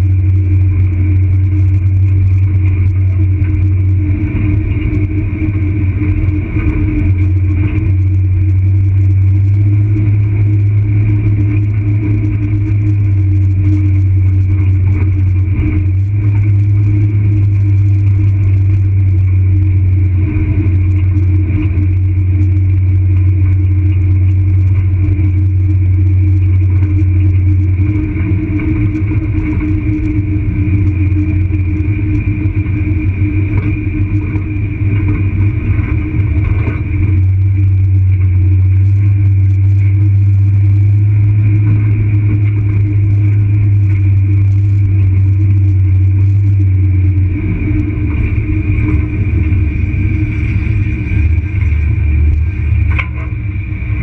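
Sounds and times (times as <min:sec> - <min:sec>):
road rumble: 0:00.0 - 0:54.0
vehicle engine drone: 0:00.0 - 0:54.0.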